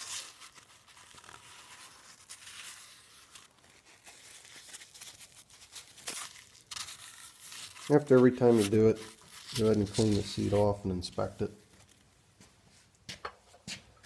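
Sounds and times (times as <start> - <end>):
paper towel rubbing and crinkling: 0.0 - 12.1.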